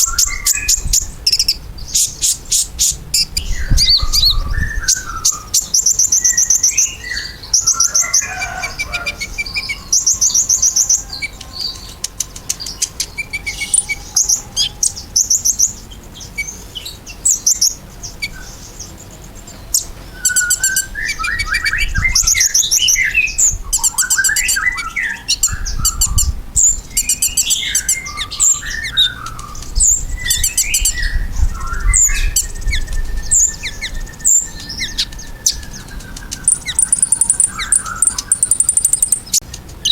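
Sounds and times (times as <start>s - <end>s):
bird chirping: 0.0s - 39.9s
bird high trills: 0.0s - 39.9s.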